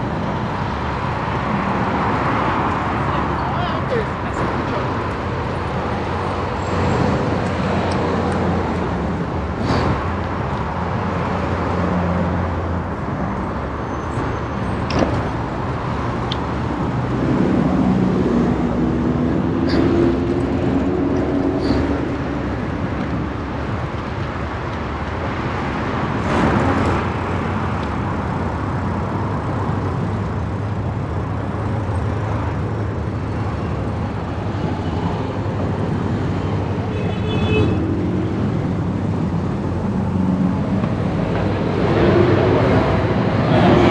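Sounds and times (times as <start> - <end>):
cars passing with road noise: 0.0 - 43.9
vehicle engine hum: 0.0 - 43.9.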